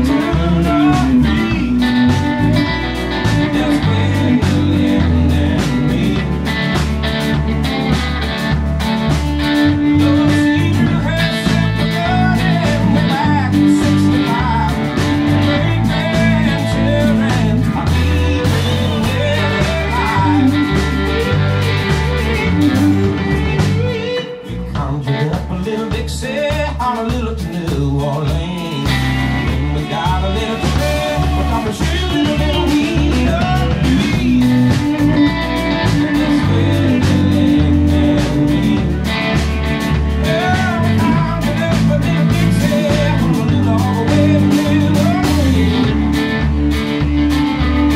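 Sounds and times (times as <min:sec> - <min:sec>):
blues-rock band playing: 0:00.0 - 0:47.9.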